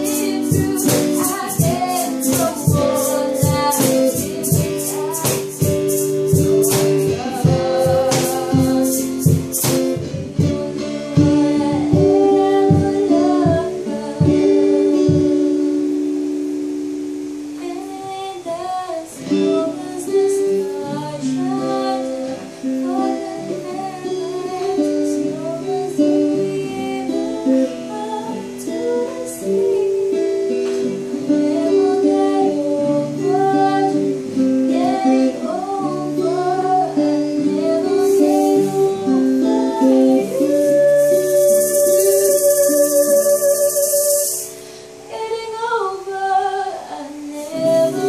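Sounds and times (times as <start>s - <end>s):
woman singing: 0.0s - 16.6s, 17.5s - 48.0s
acoustic guitar strummed and picked: 0.0s - 48.0s.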